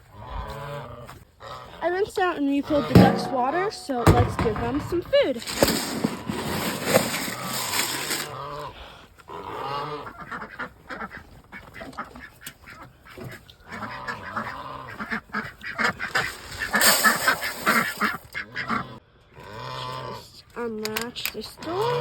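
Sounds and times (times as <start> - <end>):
ducks quacking: 0.0 - 5.3, 6.1 - 20.7, 21.6 - 22.0
geese honking: 0.0 - 5.3, 6.1 - 20.7.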